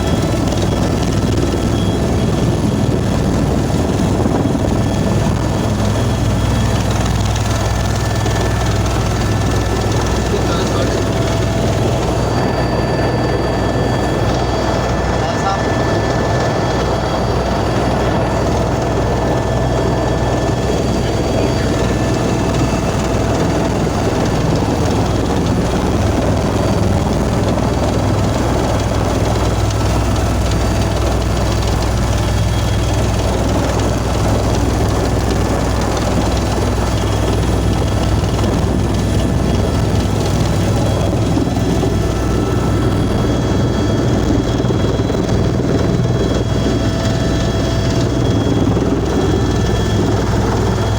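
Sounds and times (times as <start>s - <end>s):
helicopter rotor and engine: 0.0s - 50.9s.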